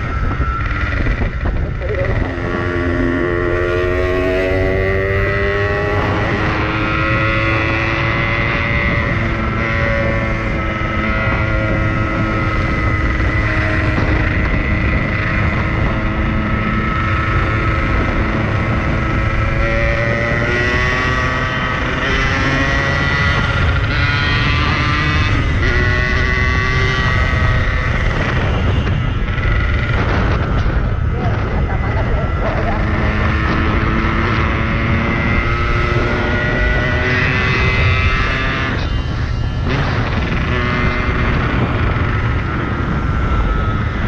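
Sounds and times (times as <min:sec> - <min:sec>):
two-stroke motorcycle engine running: 0:00.0 - 0:44.0
wind noise: 0:00.0 - 0:44.0.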